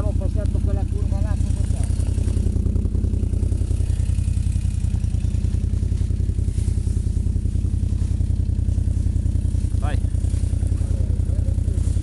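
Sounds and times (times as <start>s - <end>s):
quad engine running at low revs: 0.0s - 12.0s.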